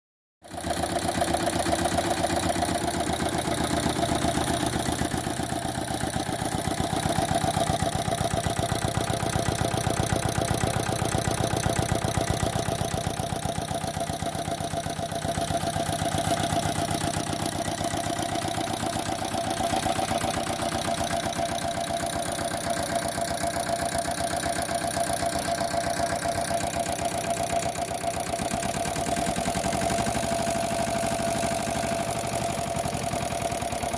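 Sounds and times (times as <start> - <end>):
diesel engine running steadily: 0.8 - 33.9.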